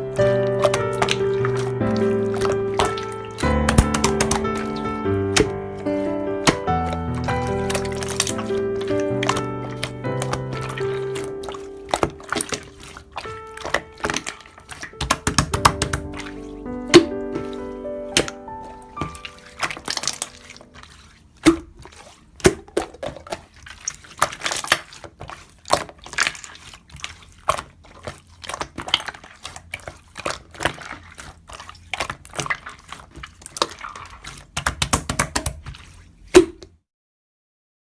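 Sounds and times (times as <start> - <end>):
slime squeezed by hand: 0.0 - 36.7.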